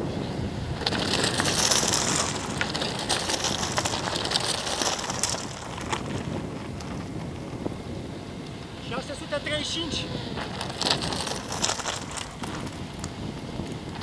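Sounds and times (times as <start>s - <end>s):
wind rumble on microphone: 0.0s - 14.0s
bicycle tyre hiss with clicks: 0.4s - 14.0s.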